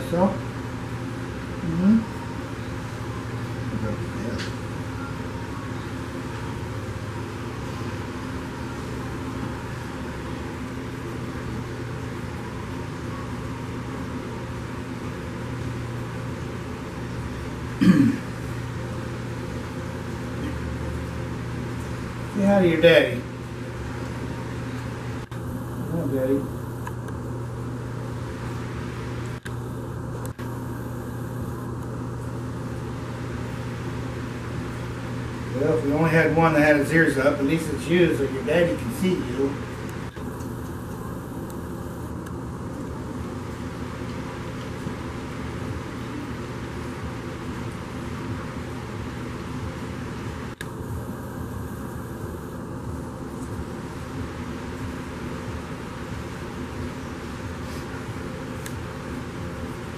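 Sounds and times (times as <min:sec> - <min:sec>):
machine hum: 0:00.0 - 0:59.9.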